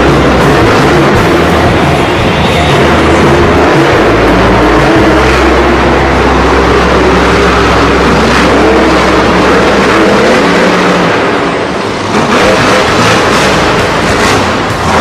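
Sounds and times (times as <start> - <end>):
monster truck engines revving: 0.0 - 15.0.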